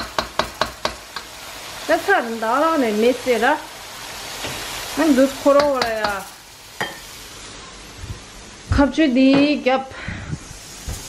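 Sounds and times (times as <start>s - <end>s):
curry sizzling in a wok: 0.0s - 11.0s.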